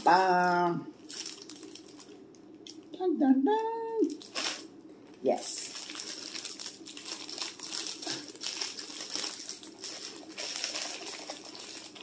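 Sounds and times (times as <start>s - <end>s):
plastic bag crinkling: 0.0s - 2.8s, 4.0s - 12.0s.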